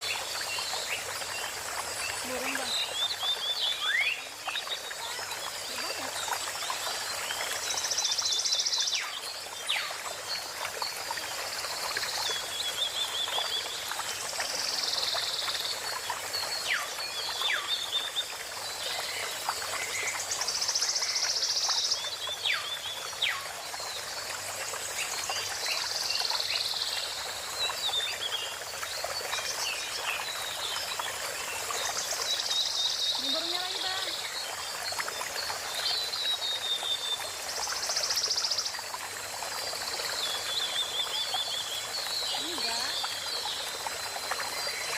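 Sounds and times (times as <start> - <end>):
trickle of running water: 0.0 - 44.9.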